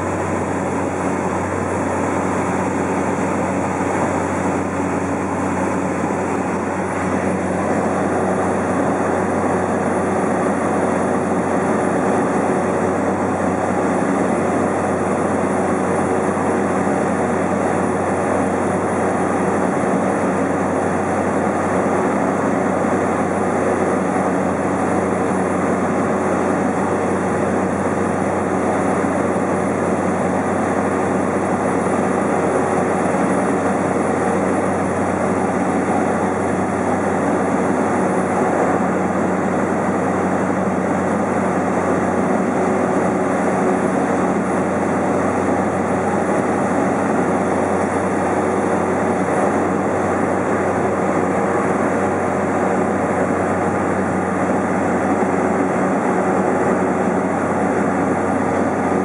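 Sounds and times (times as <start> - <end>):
plane engine droning in cabin: 0.0 - 59.0.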